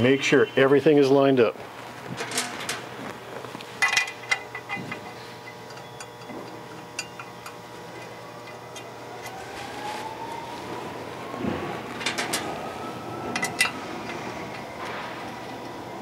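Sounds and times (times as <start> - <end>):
faint shop hum: 0.0 - 16.0
faint whine: 3.0 - 16.0.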